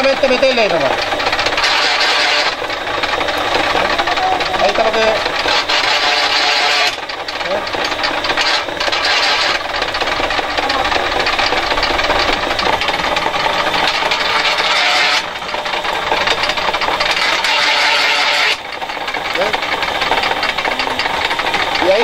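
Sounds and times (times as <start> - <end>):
machine rattling: 0.0 - 22.0.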